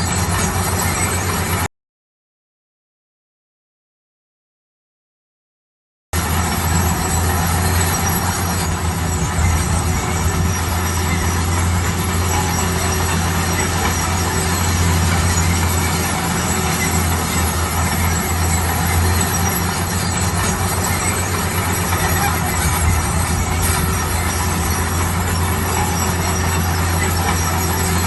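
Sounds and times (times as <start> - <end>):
construction machinery noise: 0.0 - 1.7, 6.2 - 28.0
diesel engine hum: 0.0 - 1.7, 6.2 - 28.0.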